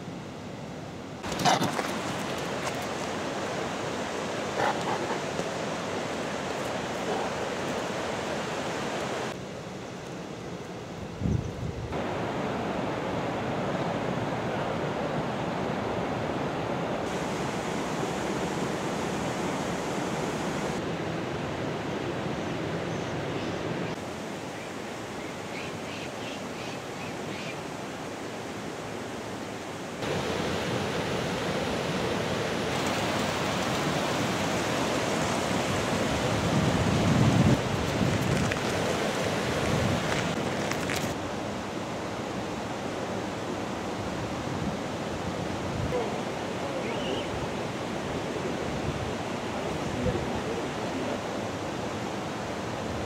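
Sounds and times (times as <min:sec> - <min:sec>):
river water rushing: 0:01.2 - 0:09.8, 0:12.0 - 0:53.0.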